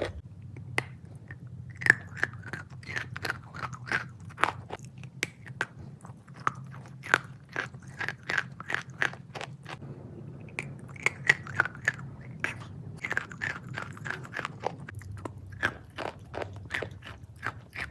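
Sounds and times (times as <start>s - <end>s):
crunchy chewing: 0.0s - 17.9s.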